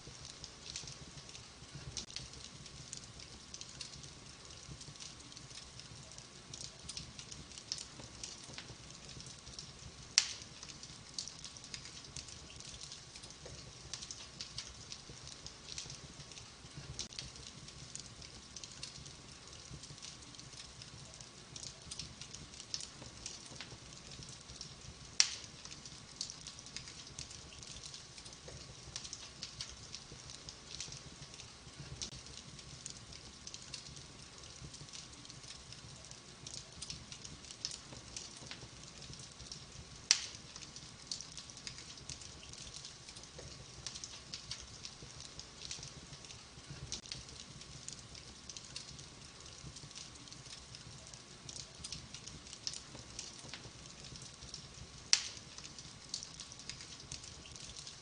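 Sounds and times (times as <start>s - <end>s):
wood fire crackling: 0.0s - 58.0s
loud fire pops: 6.6s - 58.0s.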